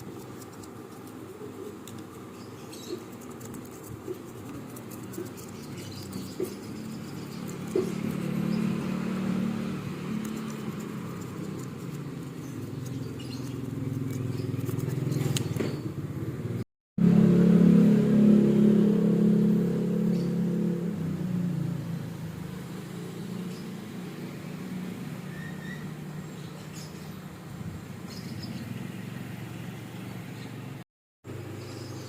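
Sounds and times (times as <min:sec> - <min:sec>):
engine hum: 0:00.0 - 0:32.0.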